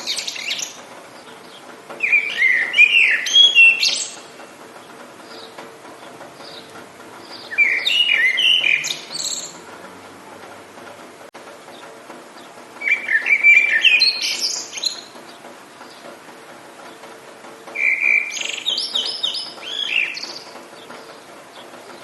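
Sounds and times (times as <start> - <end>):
songbird warbling: 0.0 - 9.8, 11.7 - 16.1, 17.7 - 22.0
steady background hiss: 0.0 - 22.0.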